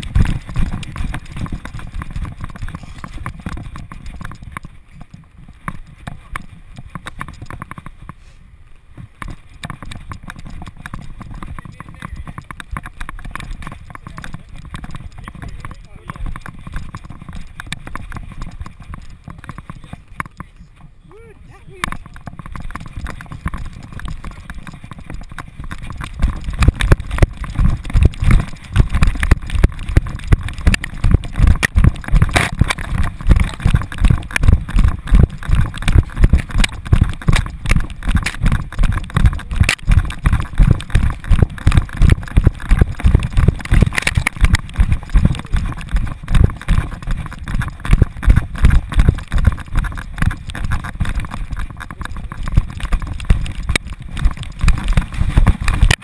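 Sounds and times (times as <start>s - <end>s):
dog's galloping thuds: 0.0s - 8.2s, 9.0s - 56.0s.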